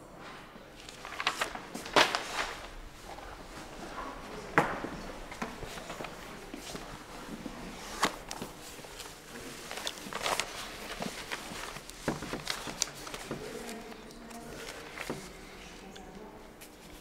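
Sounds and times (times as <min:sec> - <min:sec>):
paper rustling and crinkling: 0:00.2 - 0:15.9.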